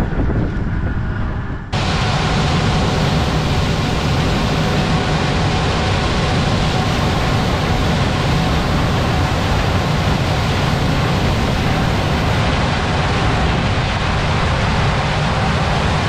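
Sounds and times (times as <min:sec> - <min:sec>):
combine harvester running: 0:01.7 - 0:16.0.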